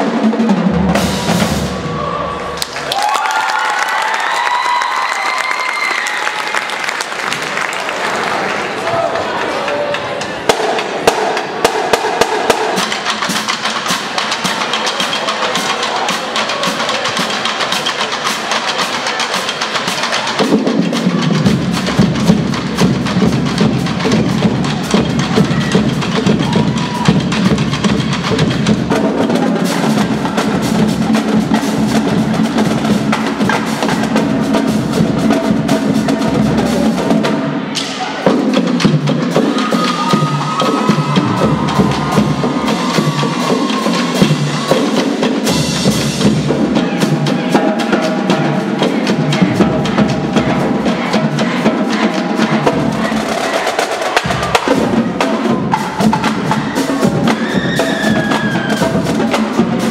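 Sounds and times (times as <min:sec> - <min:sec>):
bass drums: 0:10.5 - 0:37.8, 0:38.4 - 0:59.9.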